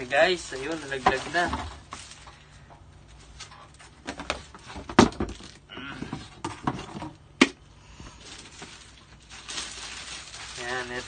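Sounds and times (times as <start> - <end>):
plastic rustling: 0.0 - 7.3, 8.0 - 11.0.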